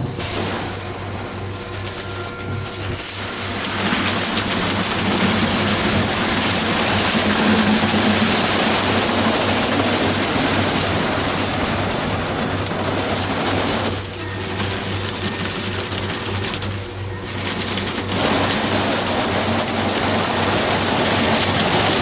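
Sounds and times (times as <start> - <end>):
car wash water spraying: 3.2 - 16.4, 17.6 - 22.0.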